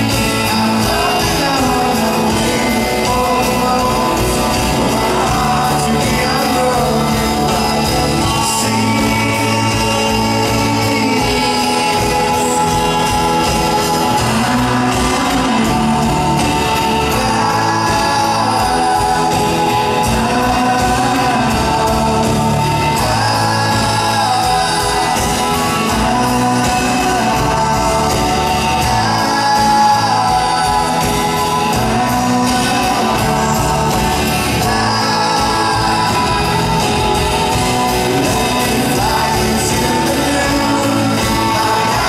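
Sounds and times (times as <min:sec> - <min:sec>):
live rock band: 0:00.0 - 0:42.0
man singing lead vocal: 0:00.0 - 0:42.0.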